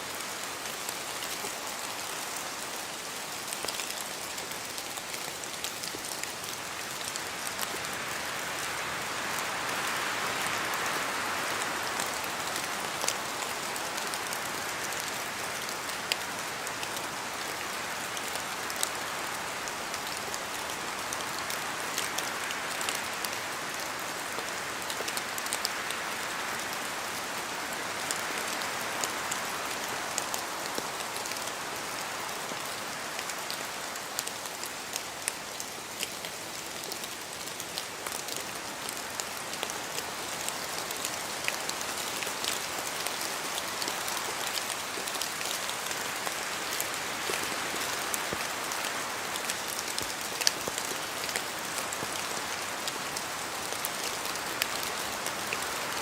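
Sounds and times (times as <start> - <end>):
rain hissing in a forest: 0.0 - 56.0
raindrops ticking on leaves: 0.0 - 56.0.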